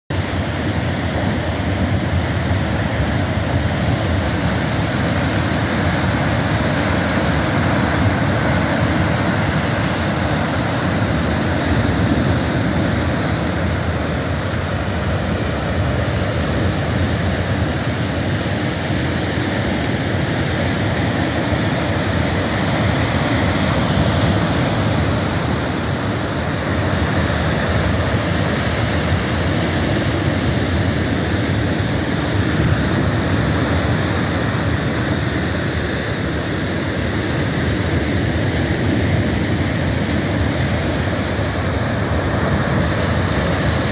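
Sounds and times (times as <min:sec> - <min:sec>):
ocean waves crashing on rocks: 0:00.2 - 0:43.9.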